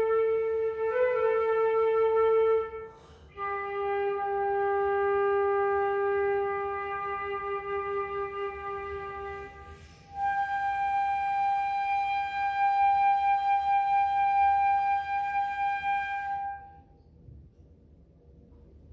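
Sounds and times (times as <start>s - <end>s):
solo flute notes: 0.0s - 17.1s.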